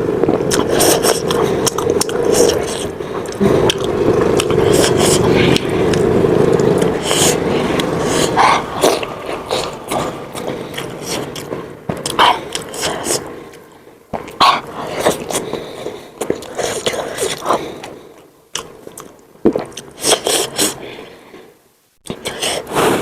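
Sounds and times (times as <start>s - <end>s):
person chewing with wet smacks: 0.3s - 20.8s.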